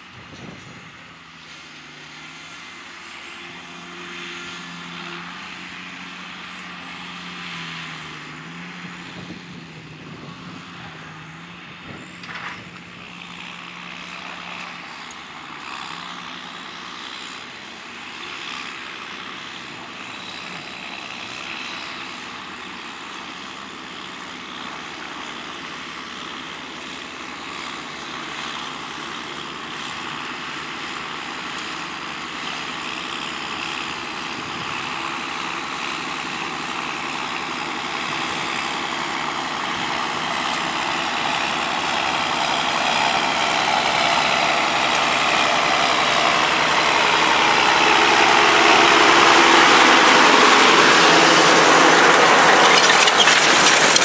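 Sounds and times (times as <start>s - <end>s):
tractor diesel engines under load: 0.0s - 54.0s.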